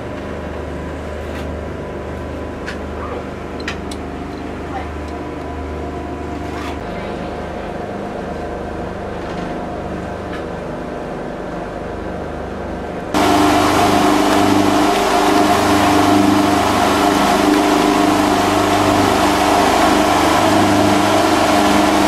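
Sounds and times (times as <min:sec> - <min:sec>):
churning wake water: 0:00.0 - 0:22.0
boat engine droning: 0:04.2 - 0:22.0.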